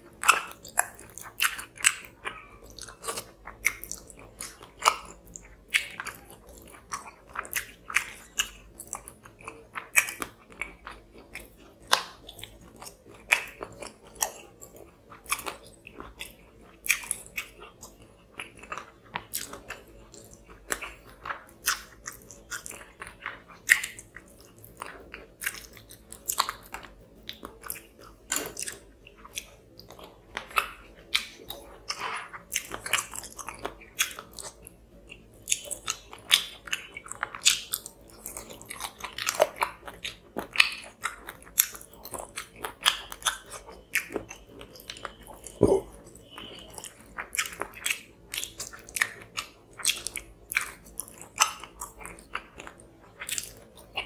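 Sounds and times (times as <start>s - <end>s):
wet chewing with mouth clicks: 0.0s - 54.0s.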